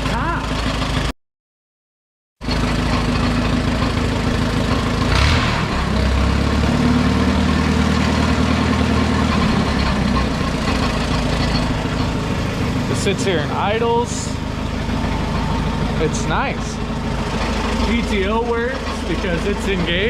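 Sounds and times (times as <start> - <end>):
tractor engine idling: 0.0 - 1.1, 2.4 - 20.0.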